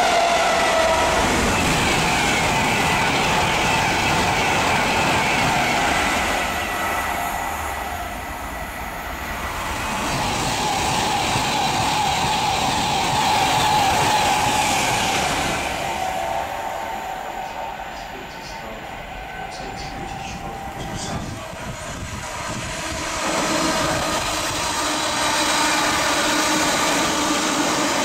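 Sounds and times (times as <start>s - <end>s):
electric train passing at speed: 0.0s - 28.0s.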